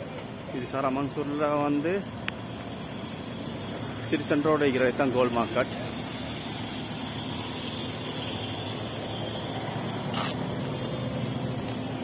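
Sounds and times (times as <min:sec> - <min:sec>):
street noise: 0:00.0 - 0:12.0
car engine running: 0:01.3 - 0:12.0.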